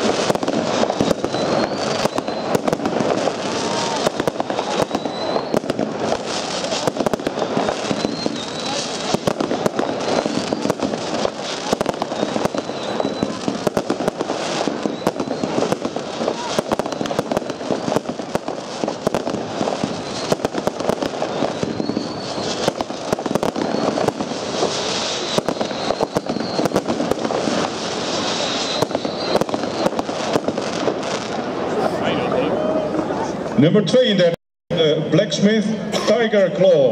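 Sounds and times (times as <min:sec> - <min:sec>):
firework launch and burst reports: 0:00.0 - 0:32.3.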